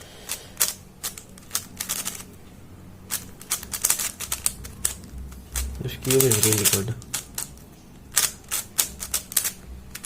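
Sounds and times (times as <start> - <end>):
plastic puzzle cube clicking: 0.3 - 2.3, 3.1 - 10.0.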